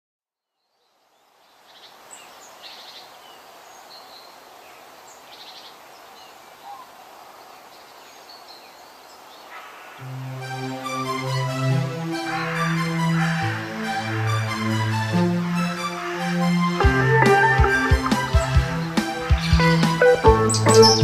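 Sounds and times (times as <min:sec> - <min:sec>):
songbirds chirping and trilling: 0:00.6 - 0:21.0
steady hiss: 0:01.2 - 0:21.0.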